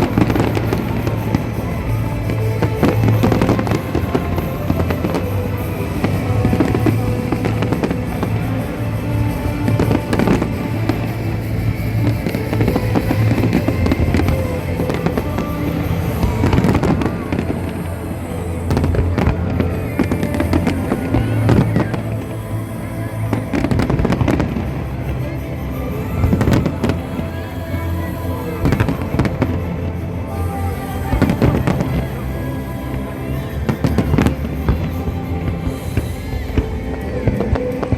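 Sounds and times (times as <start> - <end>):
fireworks bangs and crackles: 0.0 - 37.9
loud music: 0.0 - 37.9.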